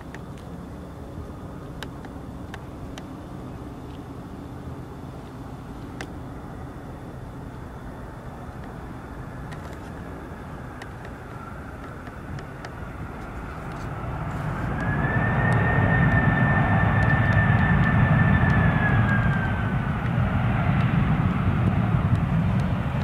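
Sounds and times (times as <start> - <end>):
high fan whine: 0.0 - 23.0
jet engines rumbling: 0.0 - 23.0.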